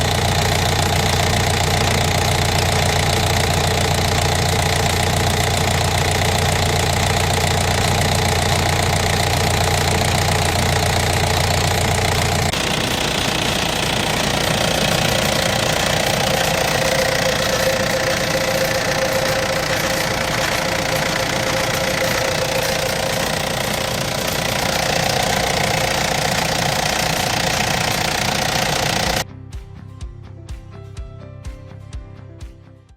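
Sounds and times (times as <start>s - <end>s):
diesel engine running: 0.0s - 29.2s
higher steady tone: 0.0s - 29.2s.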